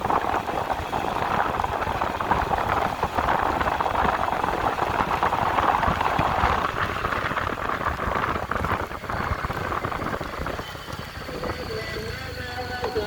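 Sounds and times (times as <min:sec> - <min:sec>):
vehicle road noise on rough road: 0:00.0 - 0:13.0.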